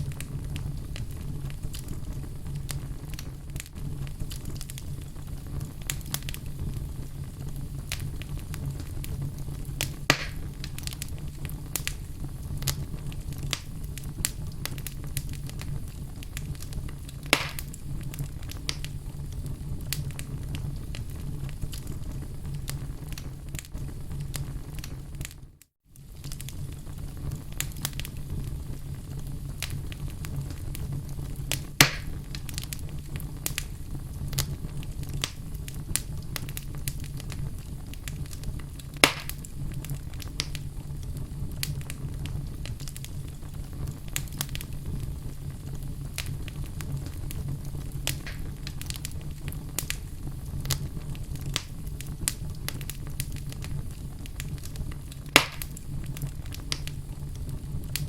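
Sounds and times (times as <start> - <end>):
loud fire pops: 0.0 - 58.0
wood fire crackling: 0.0 - 58.0.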